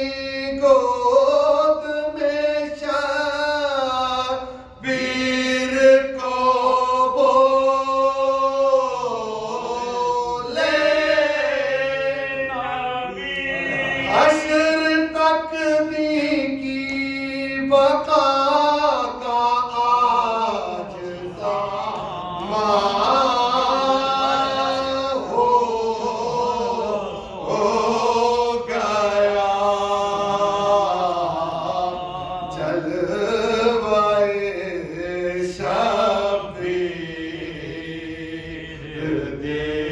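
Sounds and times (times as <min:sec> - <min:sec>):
men chanting devotional poem: 0:00.0 - 0:39.9.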